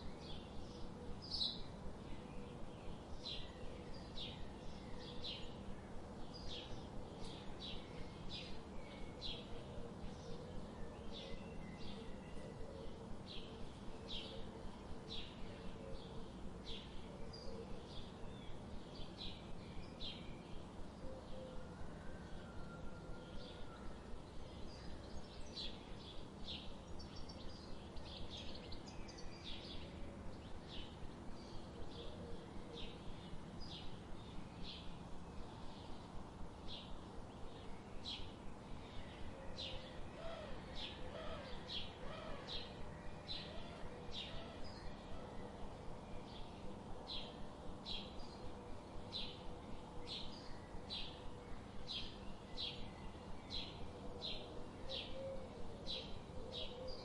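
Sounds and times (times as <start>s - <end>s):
low background hiss: 0.0s - 57.0s.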